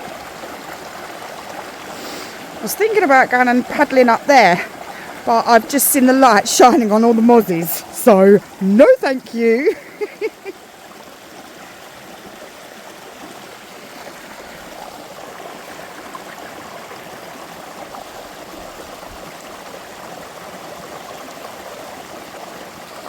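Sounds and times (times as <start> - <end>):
brook flowing over rocks: 0.0 - 23.0.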